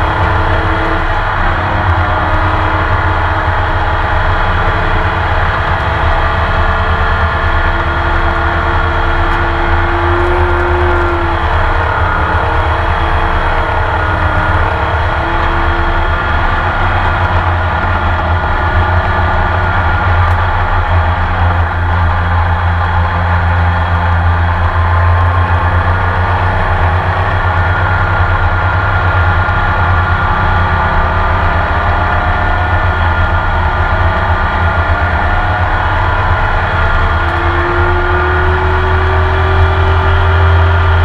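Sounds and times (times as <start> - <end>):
race car engine running: 0.0 - 41.0.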